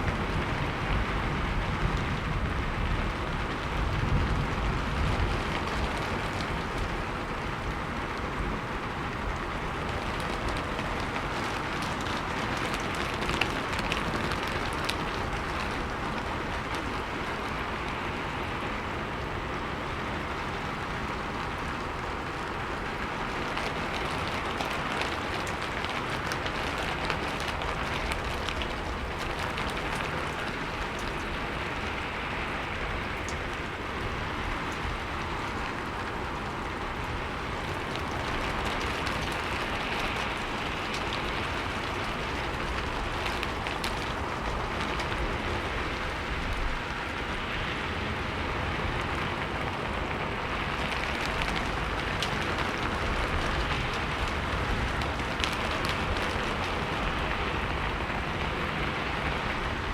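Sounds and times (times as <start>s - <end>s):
raindrops ticking on a surface: 0.0s - 59.9s
steady rain: 0.0s - 59.9s.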